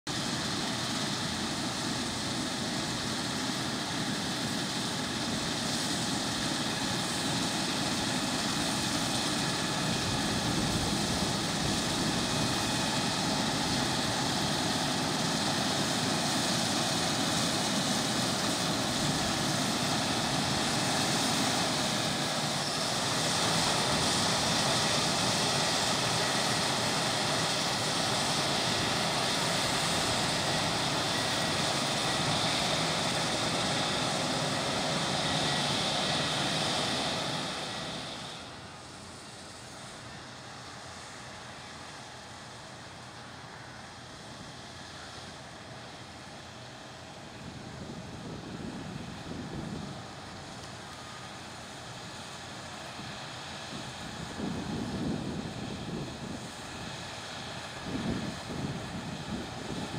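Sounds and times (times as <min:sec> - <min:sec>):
combine harvester running: 0:00.1 - 0:59.9.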